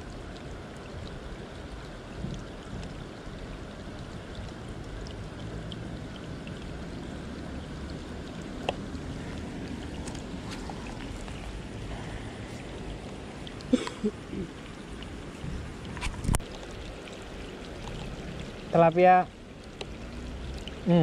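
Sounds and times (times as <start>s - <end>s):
rain and moving water: 0.0s - 21.0s
raindrop ticks: 0.0s - 21.0s.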